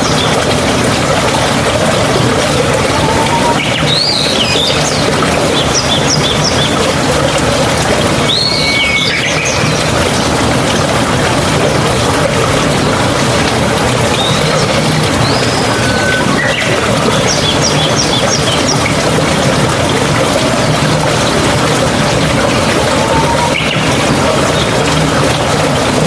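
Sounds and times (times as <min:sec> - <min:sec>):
birds calling: 0:00.0 - 0:11.1, 0:12.2 - 0:25.7
running water rushing: 0:00.0 - 0:26.0.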